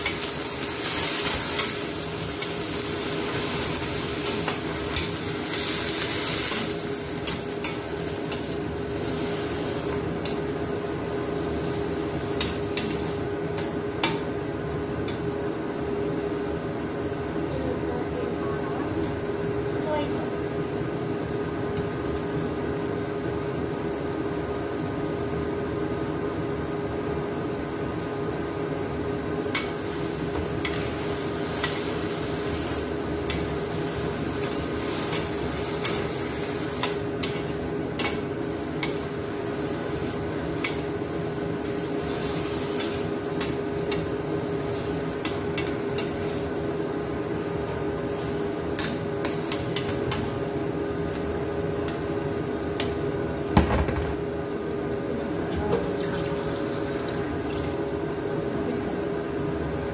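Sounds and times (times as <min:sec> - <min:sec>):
food sizzling: 0:00.0 - 0:24.5, 0:28.0 - 0:53.5, 0:55.8 - 0:58.5
steady hum: 0:00.0 - 0:59.9.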